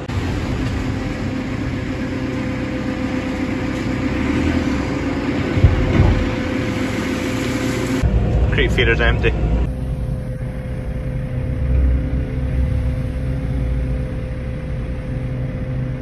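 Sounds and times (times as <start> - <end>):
heavy low rumble: 0.0 - 16.0
loader engine running with whine: 0.0 - 16.0.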